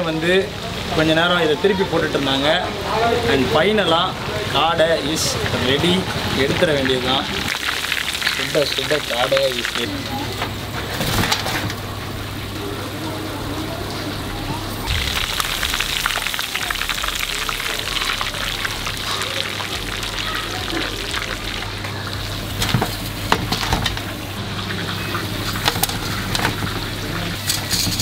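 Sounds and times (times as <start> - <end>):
oil crackling and sizzling: 0.0 - 28.0.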